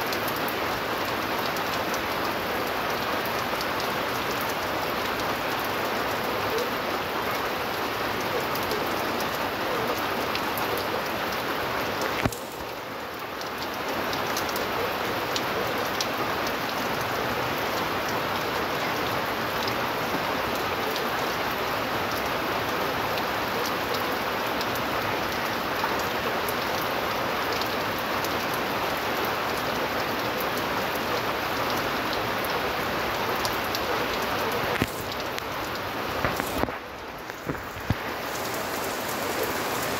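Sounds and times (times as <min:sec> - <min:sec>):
heavy rain on concrete and roof: 0:00.0 - 0:39.9.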